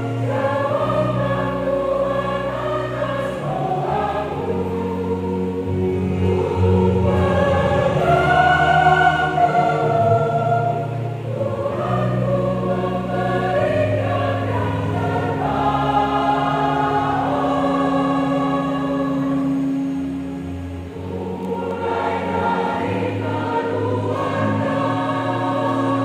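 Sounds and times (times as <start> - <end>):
choir singing a hymn: 0.0 - 26.0.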